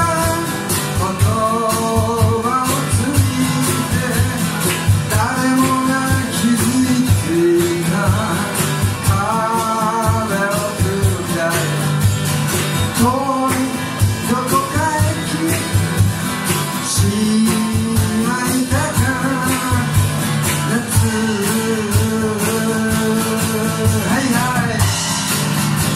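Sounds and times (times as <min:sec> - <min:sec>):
man singing into a microphone: 0:00.0 - 0:12.0, 0:12.8 - 0:25.2
acoustic guitar strumming: 0:00.0 - 0:25.9.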